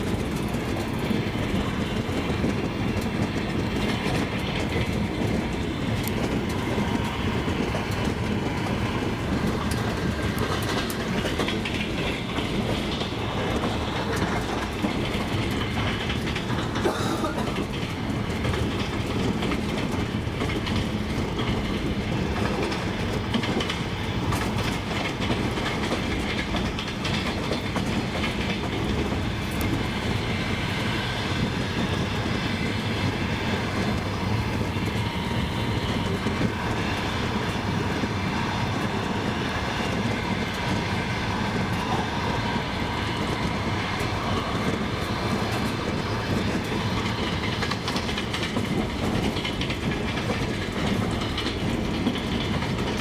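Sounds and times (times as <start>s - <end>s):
train coaches rumbling: 0.0s - 53.0s
wheels clicking over rail joints: 0.0s - 53.0s.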